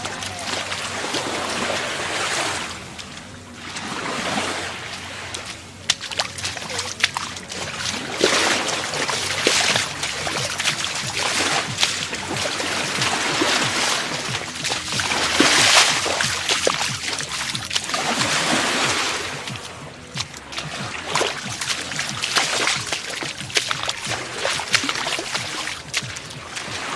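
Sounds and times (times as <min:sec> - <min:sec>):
sharp water splashes: 0:00.0 - 0:26.9
small waves washing onto beach: 0:00.0 - 0:26.9.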